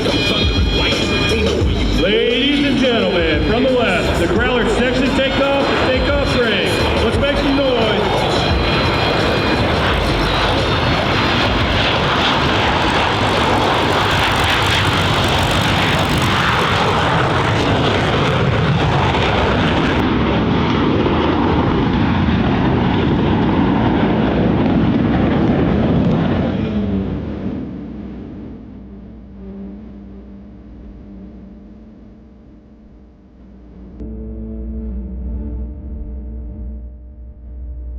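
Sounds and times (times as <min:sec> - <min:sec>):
jet engine roar: 0:00.0 - 0:32.2.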